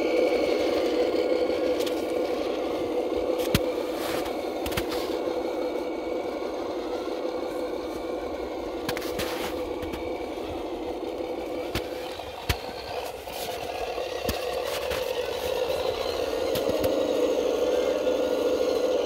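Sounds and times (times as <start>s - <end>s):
chassis clicks: 0.0s - 19.0s
toy truck motor humming: 0.0s - 19.0s.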